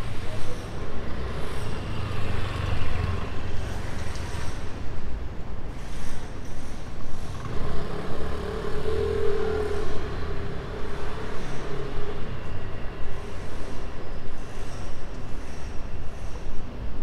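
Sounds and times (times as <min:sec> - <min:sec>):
road traffic: 0:00.0 - 0:17.0
vehicle engine drone: 0:00.0 - 0:17.0.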